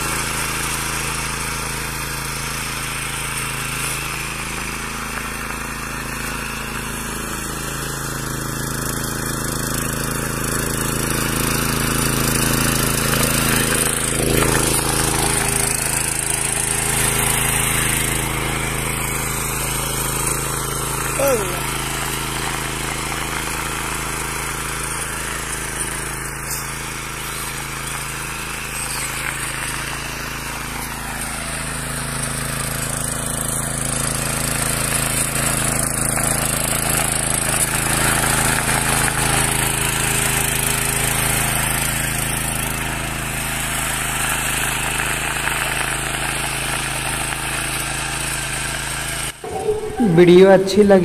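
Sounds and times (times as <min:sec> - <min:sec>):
small tiller engine running: 0:00.0 - 0:51.0.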